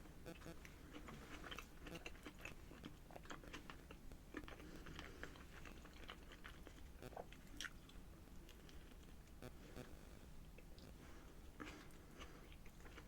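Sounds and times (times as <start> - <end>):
person chewing: 0.3 - 13.0.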